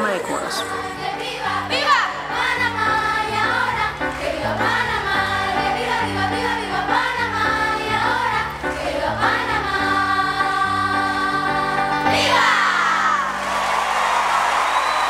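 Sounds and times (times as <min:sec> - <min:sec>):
children's choir singing: 0:00.0 - 0:13.7.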